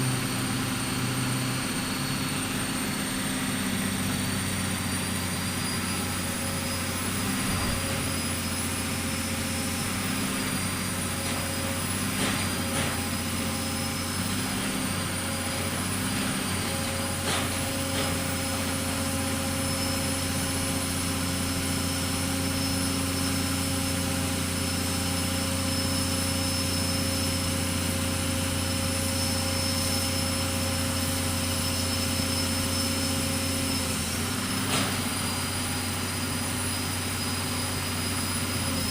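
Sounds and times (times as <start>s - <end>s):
machine engine drone: 0.0s - 38.9s.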